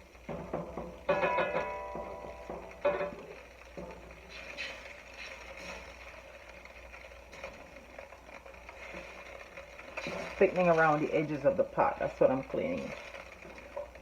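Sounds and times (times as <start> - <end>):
sauce sizzling in a pot: 0.0 - 14.0.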